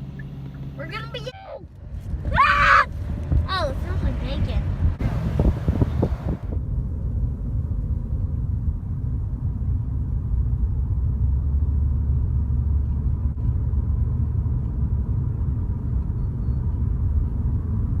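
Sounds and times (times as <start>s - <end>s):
car interior rumble: 0.0s - 18.0s.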